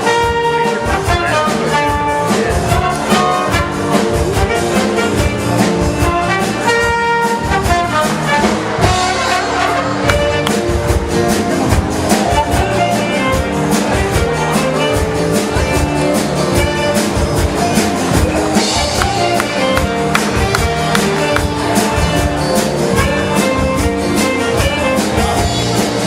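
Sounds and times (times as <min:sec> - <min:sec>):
drum kit beat: 0:00.0 - 0:26.0
upbeat brass music: 0:00.0 - 0:26.0.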